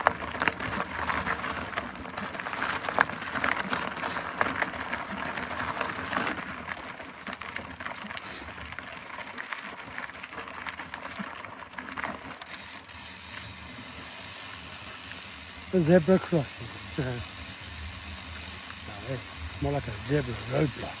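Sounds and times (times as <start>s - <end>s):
bike rattles and clicks: 0.0s - 21.0s
bike tyre rolling noise: 0.0s - 21.0s.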